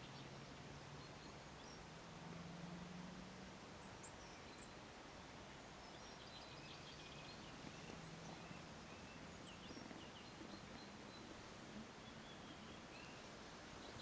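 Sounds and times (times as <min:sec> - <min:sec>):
small birds chirping: 0:00.0 - 0:02.1, 0:03.6 - 0:14.0.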